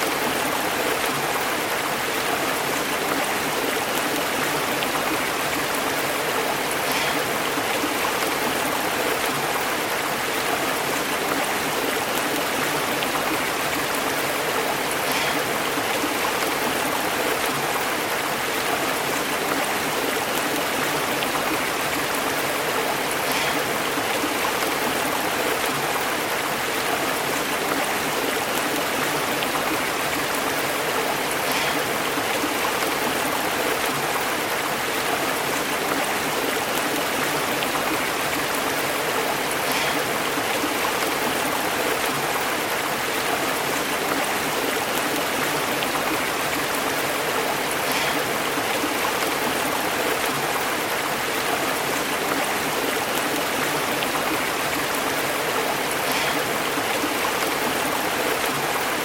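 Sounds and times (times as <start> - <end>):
stream burbling over rocks: 0.0 - 59.0.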